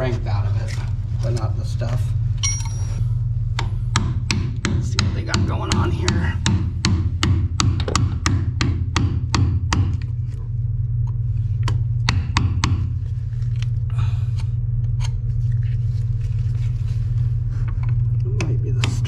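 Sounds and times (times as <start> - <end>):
air hammer rumbling: 0.0 - 19.0.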